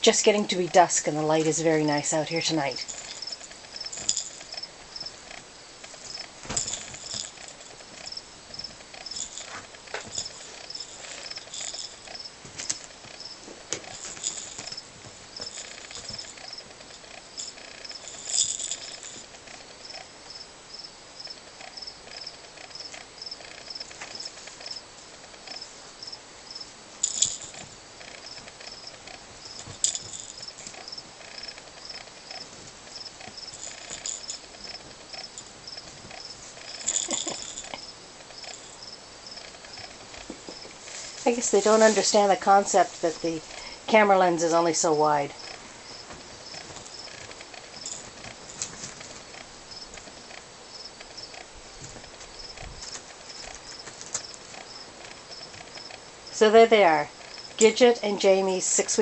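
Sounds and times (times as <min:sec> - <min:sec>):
crickets chirping: 0:00.3 - 0:59.0.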